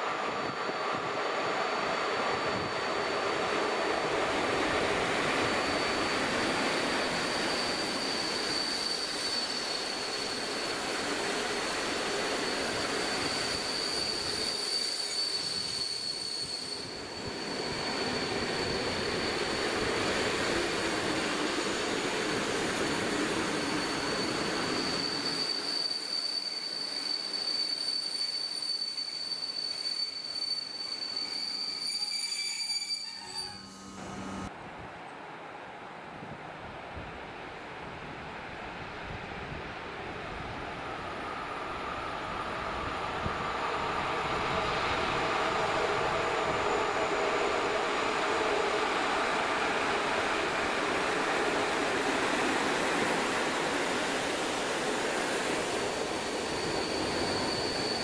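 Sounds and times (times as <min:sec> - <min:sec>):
high-pitched brake squeal: 0:00.2 - 0:34.5, 0:41.0 - 0:58.0.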